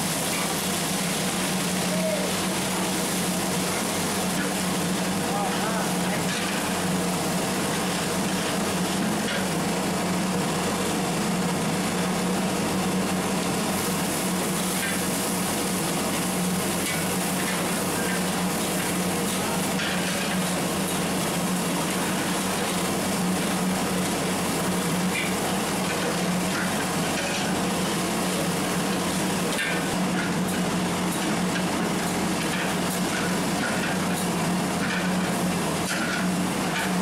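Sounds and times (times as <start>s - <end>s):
onions sizzling in oil: 0.0s - 10.0s, 12.2s - 37.0s.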